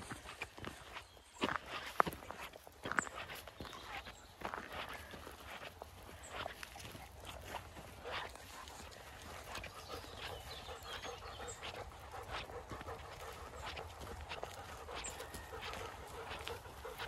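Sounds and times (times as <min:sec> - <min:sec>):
dog panting: 0:00.0 - 0:17.0
footsteps on gravel: 0:00.0 - 0:17.0.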